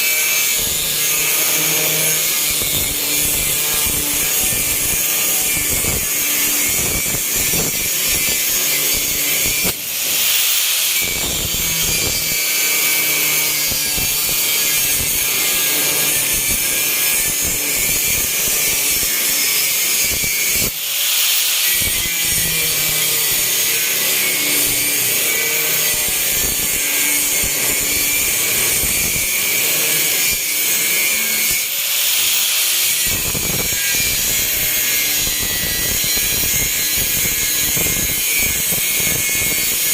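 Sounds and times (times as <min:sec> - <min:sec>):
power tool hissing on metal: 0:00.0 - 0:39.9.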